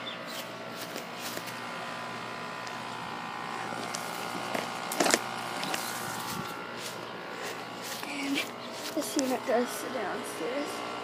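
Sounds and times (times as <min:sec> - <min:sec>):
air conditioner hum: 0:00.0 - 0:11.0.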